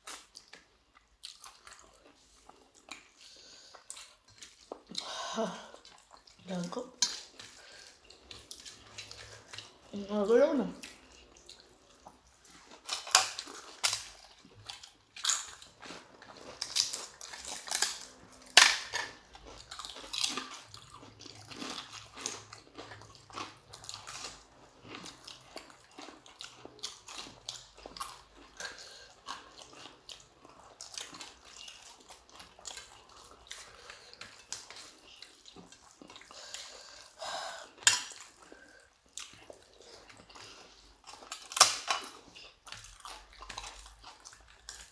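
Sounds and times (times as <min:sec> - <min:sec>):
people chewing and crunching: 0:00.0 - 0:44.9.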